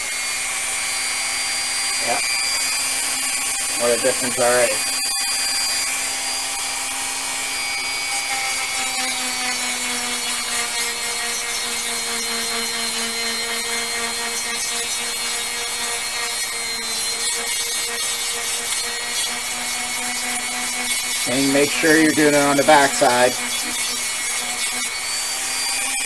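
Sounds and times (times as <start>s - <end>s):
rotary tool grinding plastic: 0.0s - 26.0s.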